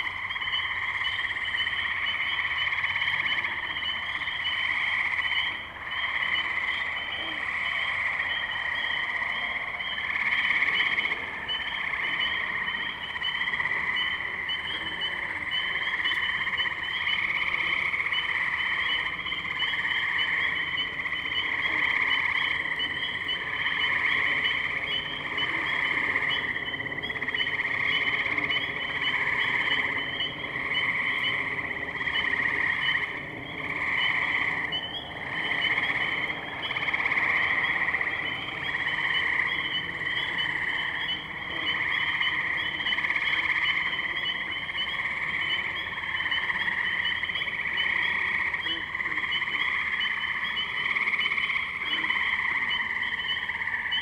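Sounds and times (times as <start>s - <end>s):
tree frogs trilling: 0.0s - 54.0s.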